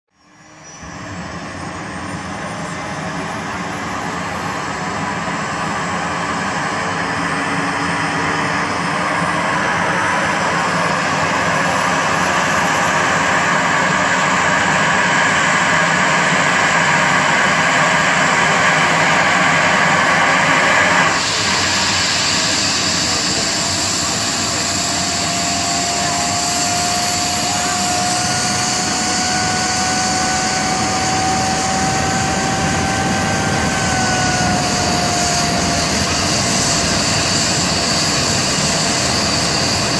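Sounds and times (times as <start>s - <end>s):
helicopter turbine whine: 0.2s - 39.9s.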